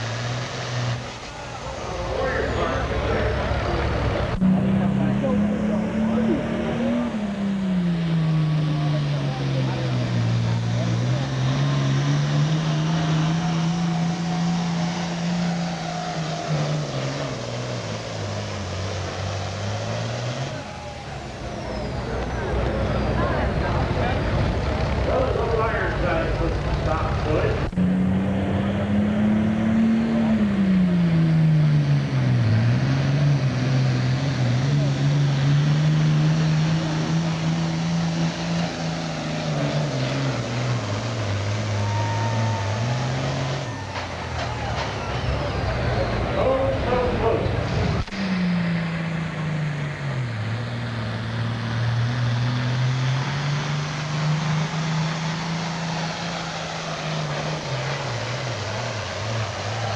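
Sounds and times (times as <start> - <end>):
diesel tractor engine under load: 0.0 - 59.9.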